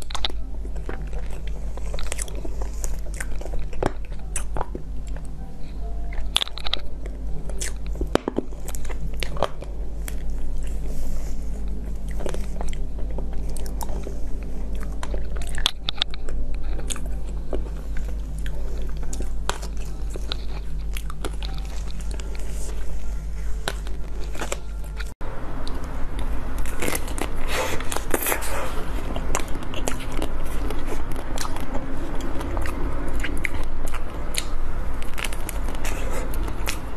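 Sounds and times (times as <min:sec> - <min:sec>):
chewing with mouth clicks: 0:00.0 - 0:36.9
steady low hum: 0:00.0 - 0:36.9.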